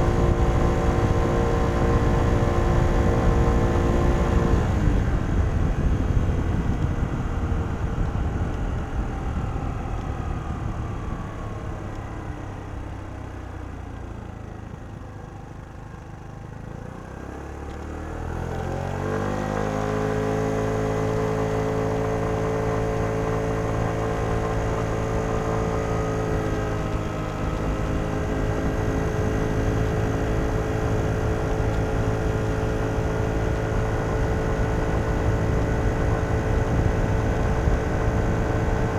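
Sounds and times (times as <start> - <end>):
scooter engine: 0.0 - 38.9.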